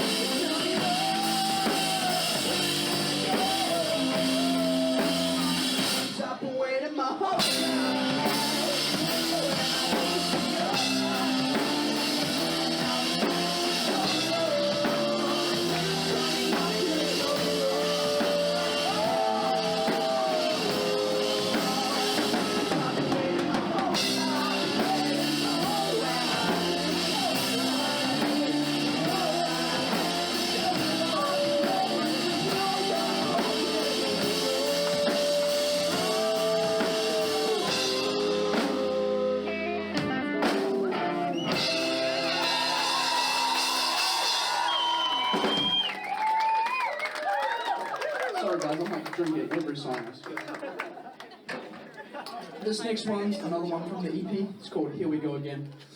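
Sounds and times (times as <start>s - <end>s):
drum kit: 0.0s - 6.3s, 7.4s - 46.6s
rock band playing live: 0.0s - 6.4s, 7.4s - 46.1s
person singing: 0.0s - 45.6s.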